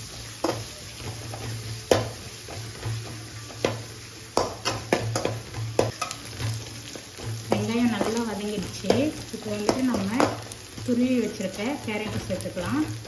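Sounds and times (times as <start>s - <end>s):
light sizzle in oil: 0.0s - 13.0s.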